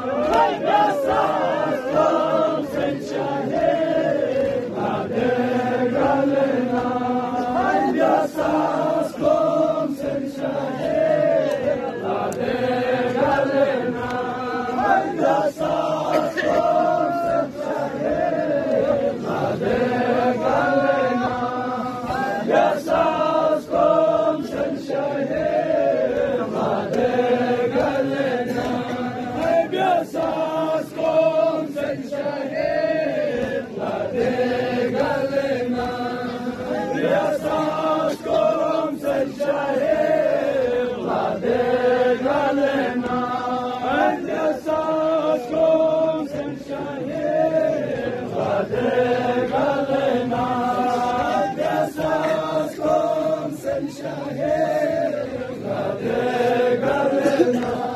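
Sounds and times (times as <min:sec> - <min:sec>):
group chanting: 0:00.0 - 0:57.9.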